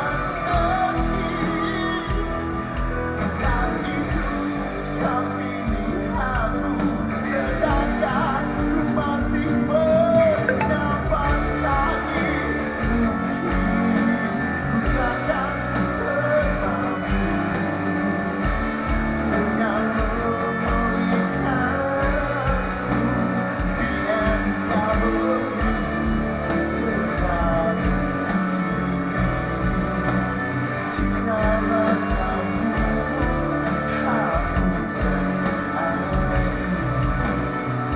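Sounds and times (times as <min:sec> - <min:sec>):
instrumental rock music: 0:00.0 - 0:37.9.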